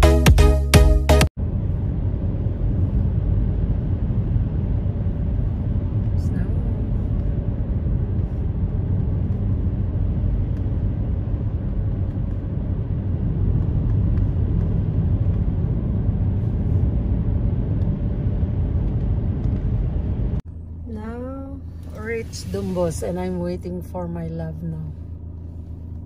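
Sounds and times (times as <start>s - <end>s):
car engine and tyre rumble: 1.4s - 26.0s.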